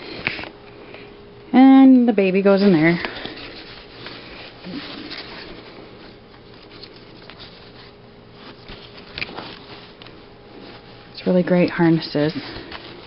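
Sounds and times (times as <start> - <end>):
soft rustling of padding: 2.4 - 13.0.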